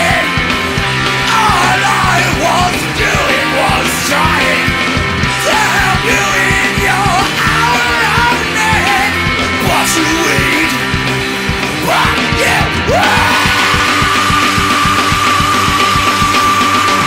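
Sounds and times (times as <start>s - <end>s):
punk rock band playing: 0.0s - 17.0s
man shouting vocals: 1.3s - 4.8s, 5.4s - 10.8s, 11.8s - 17.0s.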